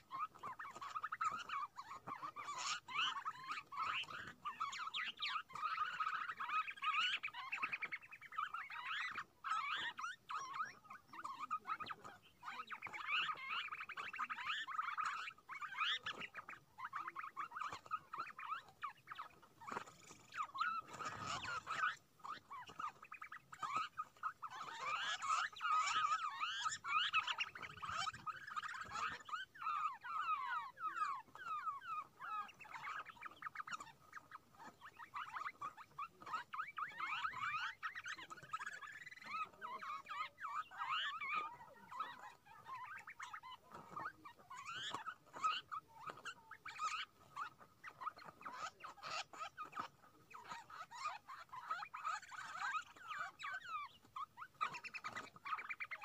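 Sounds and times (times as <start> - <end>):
small birds chattering: 0.0 - 56.0.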